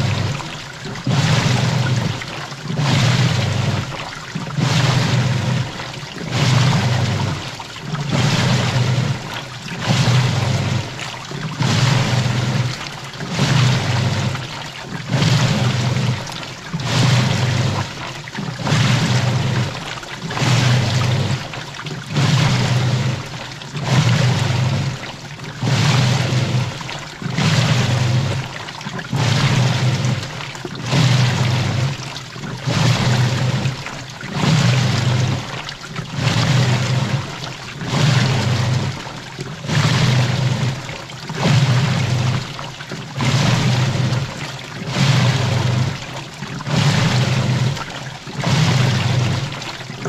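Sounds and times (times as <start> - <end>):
low motor hum: 0.0 - 50.0
water swishing in washing machine drum: 0.0 - 50.0.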